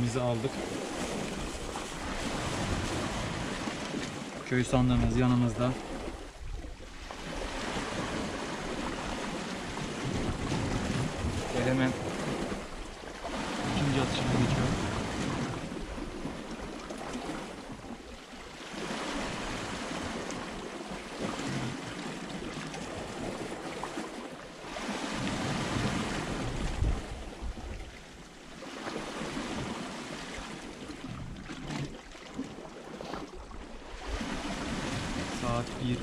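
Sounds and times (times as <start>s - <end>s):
sea waves against rocky shore: 0.0s - 36.0s.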